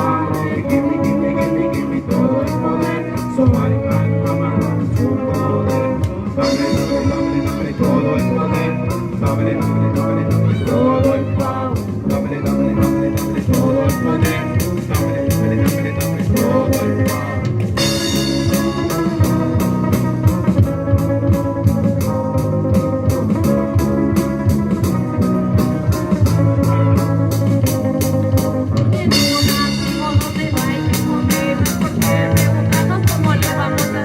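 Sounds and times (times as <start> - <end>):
drum kit beat: 0.0 - 34.0
guitar: 0.0 - 34.0
live band playing: 0.0 - 34.0.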